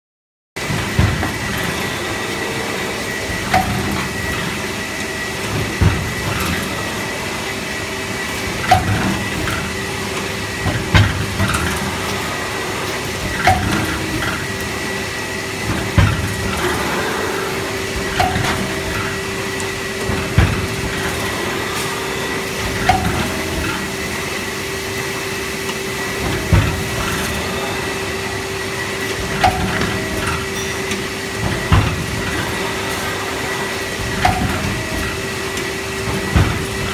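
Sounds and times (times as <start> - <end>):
machine hum: 0.6 - 36.9.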